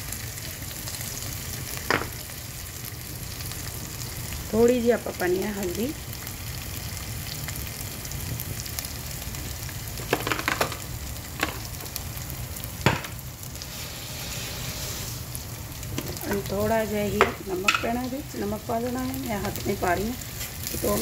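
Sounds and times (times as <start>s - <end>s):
spices sizzling in a pot: 0.0s - 21.0s.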